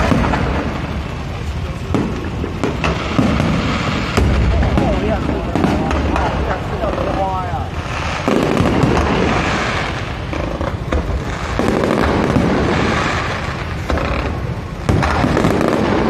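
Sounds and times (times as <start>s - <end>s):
fireworks crackling bursts: 0.0s - 16.0s.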